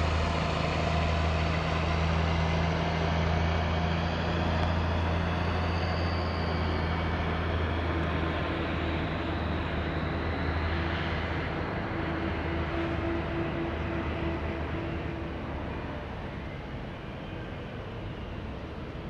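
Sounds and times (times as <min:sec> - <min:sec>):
jet engines at low power: 0:00.0 - 0:19.0.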